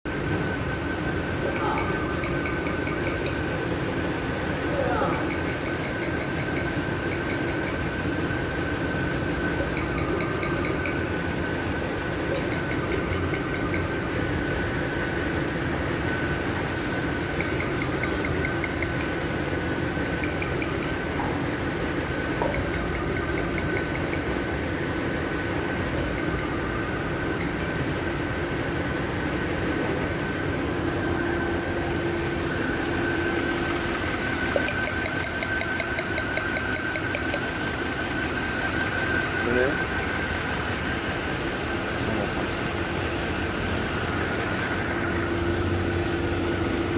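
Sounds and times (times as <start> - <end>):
car engine idling with misfire: 0.1 - 46.9.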